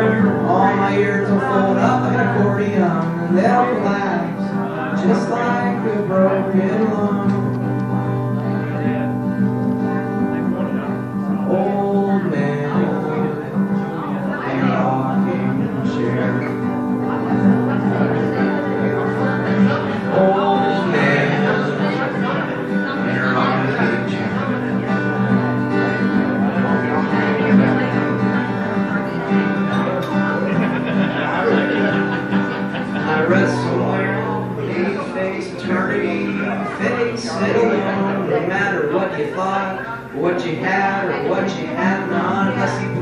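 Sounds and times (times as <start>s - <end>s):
acoustic guitar playing chords: 0.0s - 43.0s.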